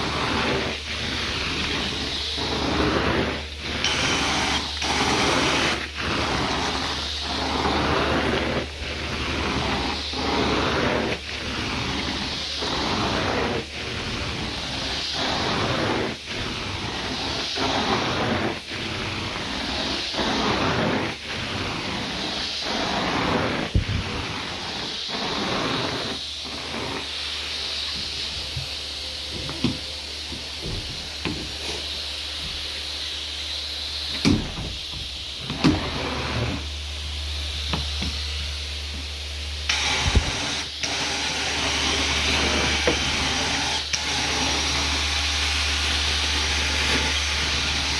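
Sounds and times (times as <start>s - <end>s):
carpet extraction wand hissing: 0.0s - 47.9s.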